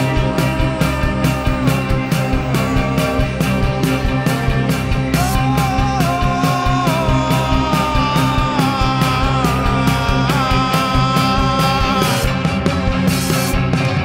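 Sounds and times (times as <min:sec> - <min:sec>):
band playing live: 0:00.0 - 0:14.0
drums steady beat: 0:00.0 - 0:14.0
sliding lead melody: 0:00.0 - 0:14.0.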